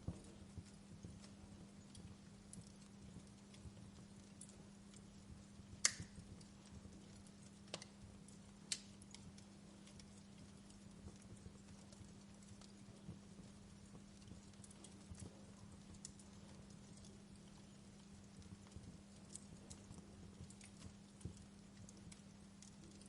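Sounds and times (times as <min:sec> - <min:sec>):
campfire crackling and popping: 0:00.0 - 0:23.0
low steady hum: 0:00.0 - 0:23.0.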